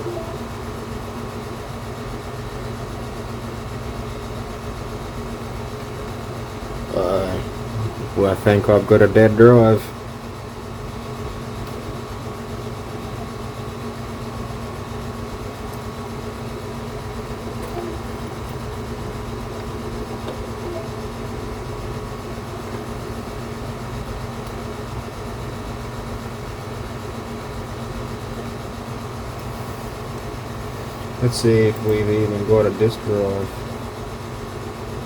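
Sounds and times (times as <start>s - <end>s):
machine hum with tones: 0.0s - 34.9s.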